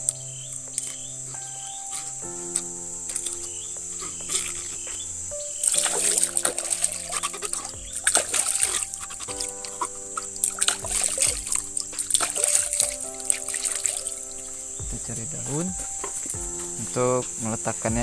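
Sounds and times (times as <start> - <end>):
background music of sustained chords: 0.0 - 18.0
water splashing and trickling: 0.0 - 18.0.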